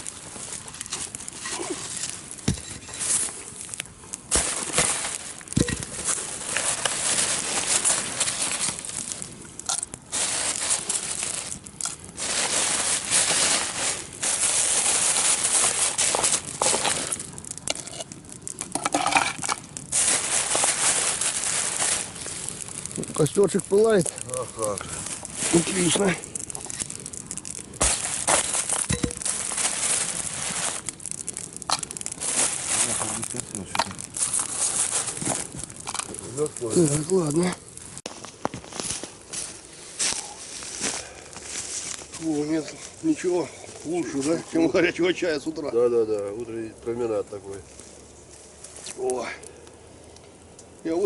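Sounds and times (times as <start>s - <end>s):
rustling: 0.0s - 44.8s
campfire crackling: 0.0s - 51.0s.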